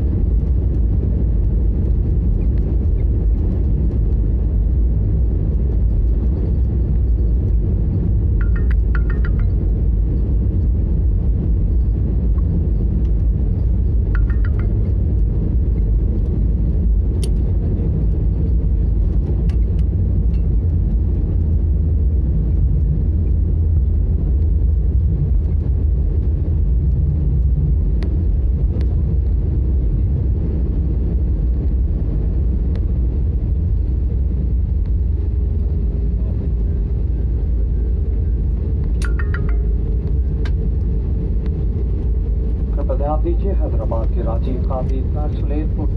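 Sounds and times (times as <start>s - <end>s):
jet engine rumble: 0.0s - 45.9s.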